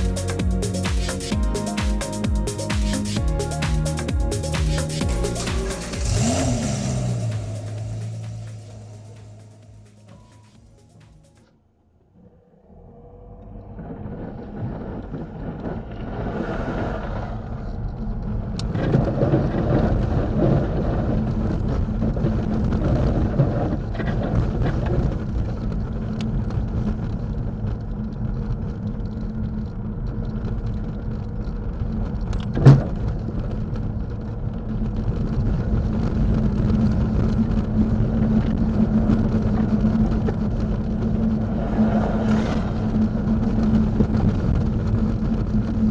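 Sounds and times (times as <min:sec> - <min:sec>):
car engine and tyre noise: 0:00.0 - 0:45.9.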